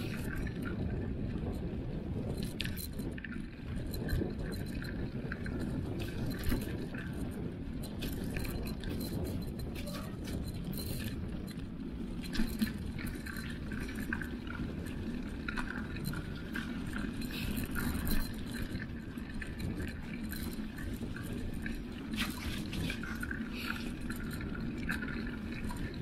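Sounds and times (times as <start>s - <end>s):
bike chain and frame rattling: 0.0s - 26.0s.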